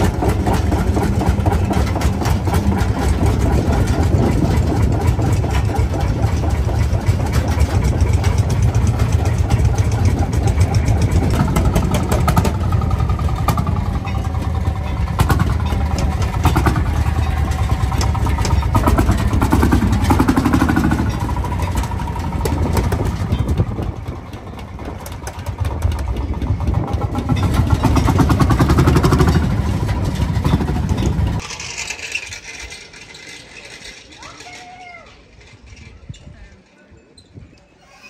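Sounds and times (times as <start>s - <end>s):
tractor engine pulsing: 0.0s - 36.7s.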